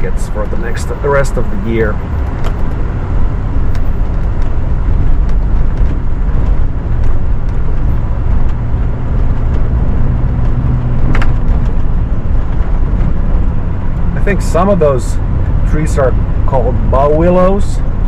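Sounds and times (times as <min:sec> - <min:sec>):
vehicle engine and tyres rumbling: 0:00.0 - 0:18.0.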